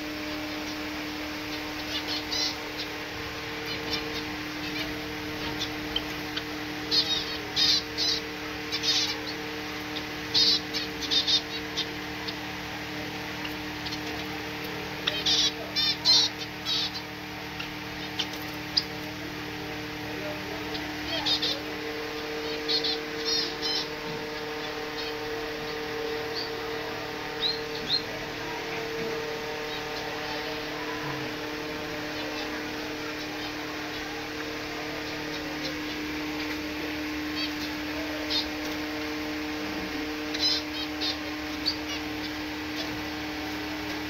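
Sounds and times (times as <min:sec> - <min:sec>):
finches chirping: 0:00.0 - 0:44.0
steady low hum: 0:00.0 - 0:44.0.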